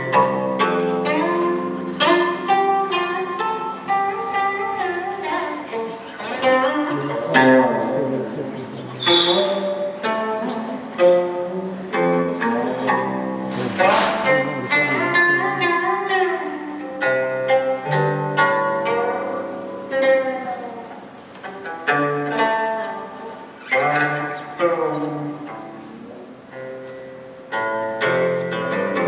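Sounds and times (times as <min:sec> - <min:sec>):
bowed string instrument: 0:00.0 - 0:29.0
plucked zither notes: 0:00.0 - 0:29.0.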